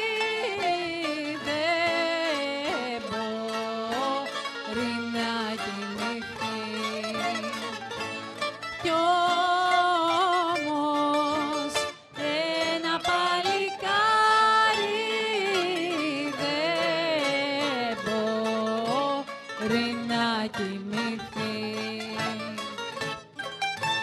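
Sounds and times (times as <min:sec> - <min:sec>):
plucked accompaniment: 0:00.0 - 0:24.0
plucked string melody: 0:00.0 - 0:24.0.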